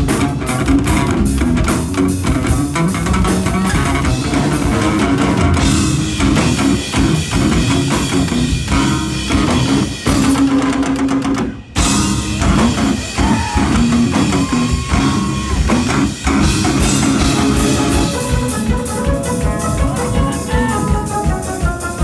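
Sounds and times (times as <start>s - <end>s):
drum kit: 0.0s - 22.0s
electric shamisens playing rock: 0.0s - 22.0s.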